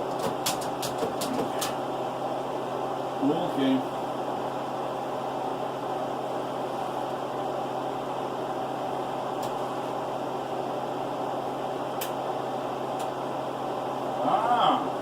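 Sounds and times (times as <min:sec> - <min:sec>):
electrical hum: 0:00.0 - 0:15.0
fan whirring: 0:00.0 - 0:15.0.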